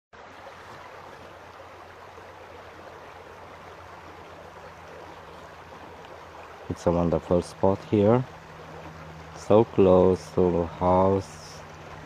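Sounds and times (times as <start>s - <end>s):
river water babbling over stones: 0.2s - 12.0s.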